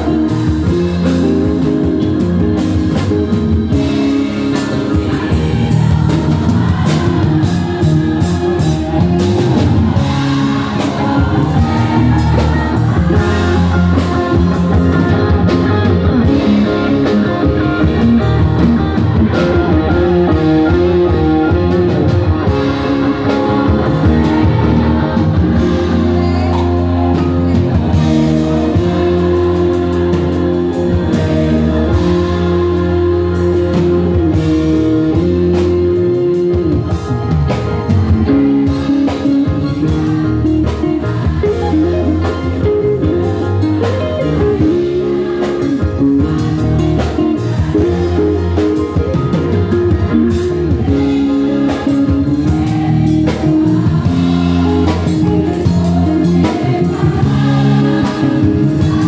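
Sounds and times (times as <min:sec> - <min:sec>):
bass guitar: 0:00.0 - 0:59.0
drum kit: 0:00.0 - 0:59.0
electric guitars: 0:00.0 - 0:59.0
keyboards: 0:00.0 - 0:59.0.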